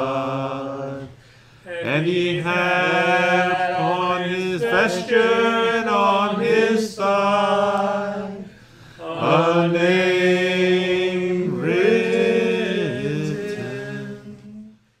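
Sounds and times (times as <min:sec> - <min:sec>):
a cappella vocal chanting: 0:00.0 - 0:15.0.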